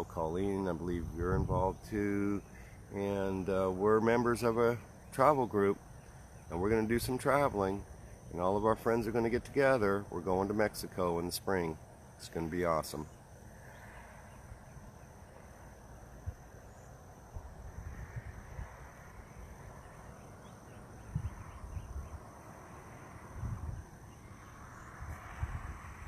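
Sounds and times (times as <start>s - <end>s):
distant bird calls: 0.0s - 25.4s.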